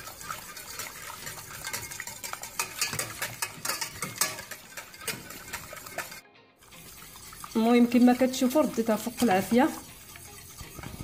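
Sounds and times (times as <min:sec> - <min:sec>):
whisk beating in metal saucepan: 0:00.0 - 0:11.0.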